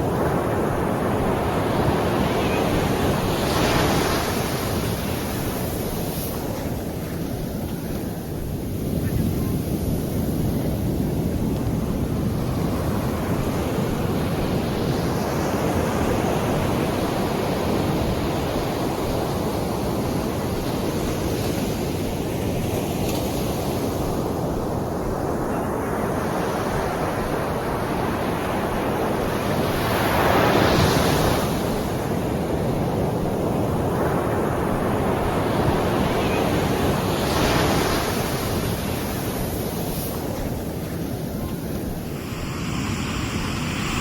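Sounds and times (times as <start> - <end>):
sea waves washing onto shore: 0.0 - 44.0.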